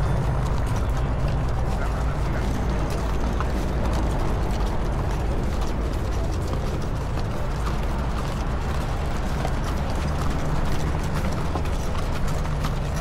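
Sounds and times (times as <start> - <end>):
horse hooves clip-clopping: 0.0 - 13.0.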